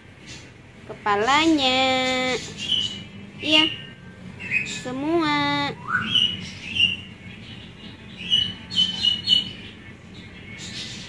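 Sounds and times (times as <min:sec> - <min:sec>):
myna bird calling and whistling: 0:00.2 - 0:11.0.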